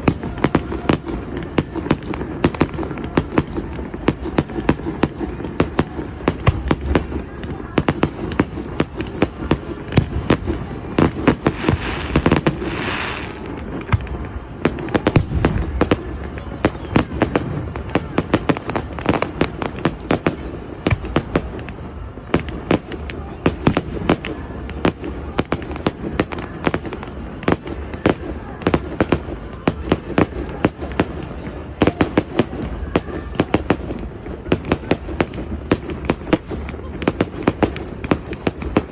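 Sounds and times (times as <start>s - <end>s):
fireworks bangs: 0.0s - 38.9s
hissing crackle of burning stars: 0.0s - 38.9s.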